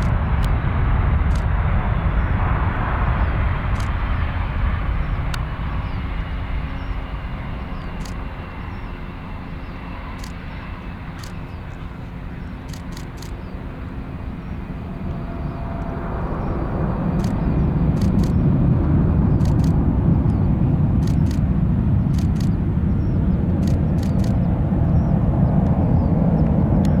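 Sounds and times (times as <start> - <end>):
jet engines deep rumble: 0.0 - 27.0.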